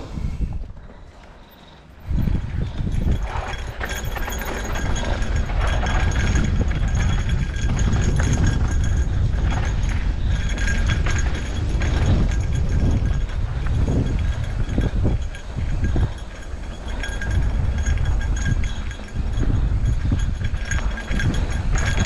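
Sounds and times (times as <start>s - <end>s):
bike rattling and clicking: 0.0s - 22.0s
wind rumble on microphone: 0.0s - 22.0s.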